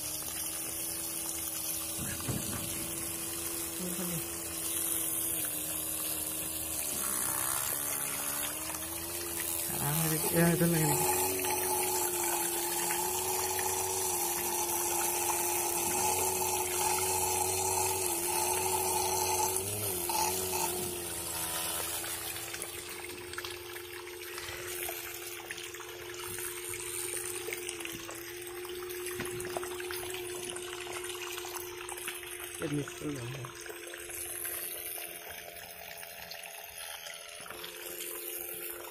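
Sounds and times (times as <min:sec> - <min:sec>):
water pump motor whine: 0:00.0 - 0:38.9.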